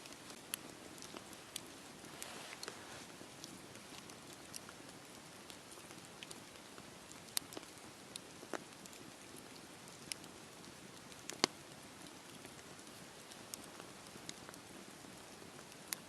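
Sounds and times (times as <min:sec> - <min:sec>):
campfire hissing: 0:00.0 - 0:16.0
fire crackles and pops: 0:00.0 - 0:16.0.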